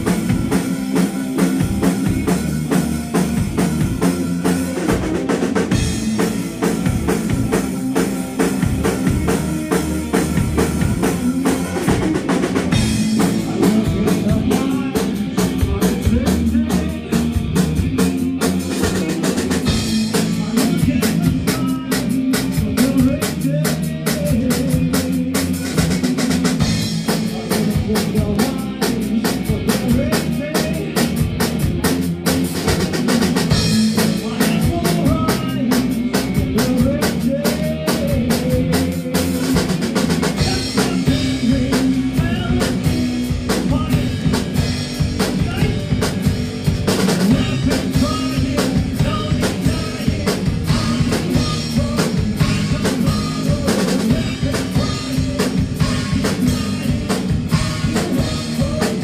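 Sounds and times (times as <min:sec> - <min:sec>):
busy drumming: 0:00.0 - 0:59.0
rock band playing live: 0:00.0 - 0:59.0.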